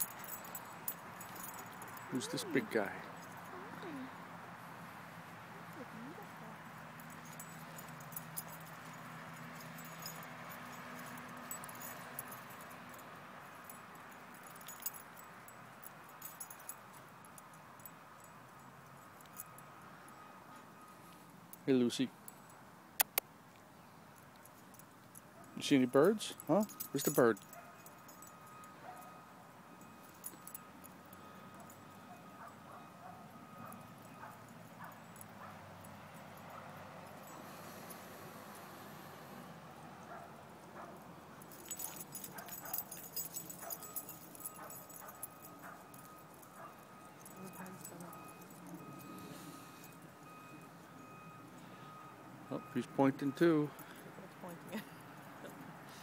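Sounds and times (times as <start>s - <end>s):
faint outdoor background noise: 0.0s - 56.0s
light clicks and jingles: 0.0s - 56.0s.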